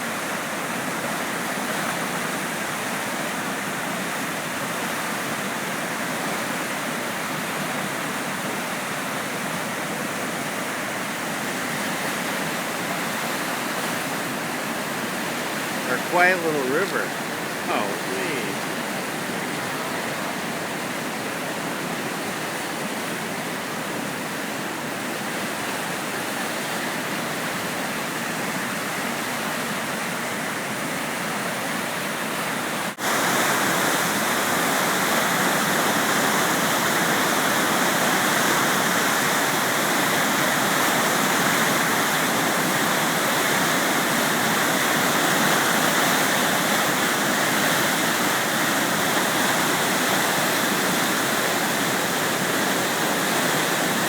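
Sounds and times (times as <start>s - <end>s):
flooded river rushing: 0.0s - 54.0s.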